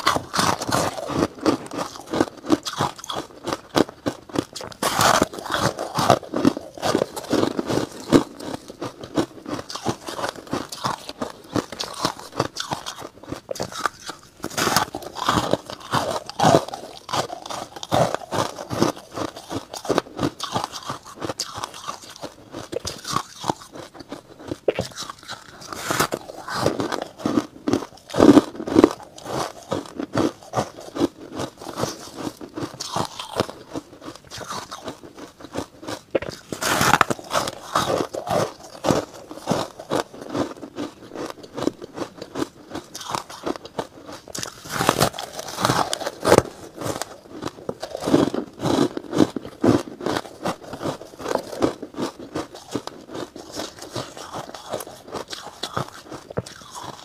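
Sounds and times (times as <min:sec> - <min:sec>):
ice crunching between teeth: 0:00.0 - 0:57.0.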